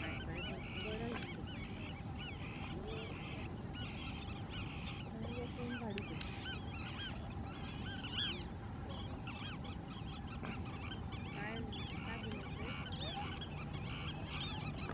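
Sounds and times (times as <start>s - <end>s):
chorus of birds calling: 0.0s - 14.9s
low background noise: 0.0s - 14.9s.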